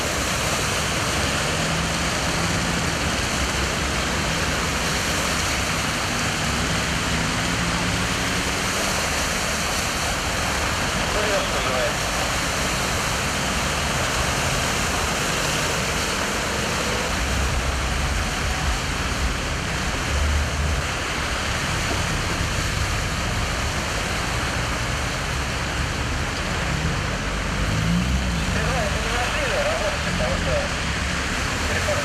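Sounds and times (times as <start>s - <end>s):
rumble of passing vehicles: 0.0s - 32.0s
tyres splashing through floodwater: 0.0s - 32.0s.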